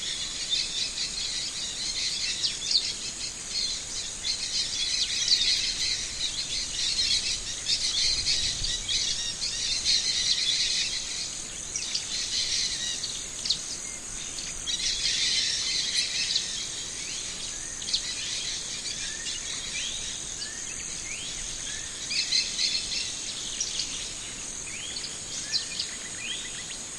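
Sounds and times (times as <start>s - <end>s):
high insect trill: 0.0s - 26.9s.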